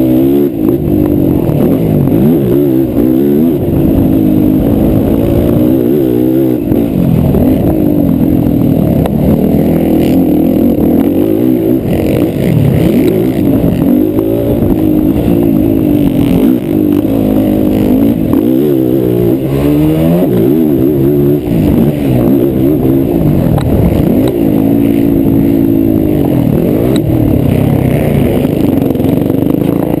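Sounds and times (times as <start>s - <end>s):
quad engine revving: 0.0s - 30.0s.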